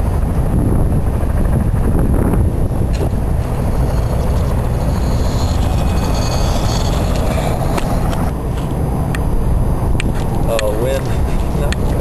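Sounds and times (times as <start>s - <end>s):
faint wavering high whine: 0.0s - 12.0s
wind rumbling on microphone: 0.0s - 12.0s.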